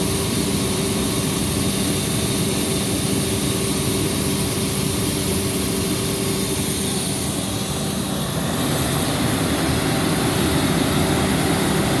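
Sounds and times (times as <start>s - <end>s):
air compressor engine drone: 0.0s - 12.0s
compressor hiss: 0.0s - 12.0s.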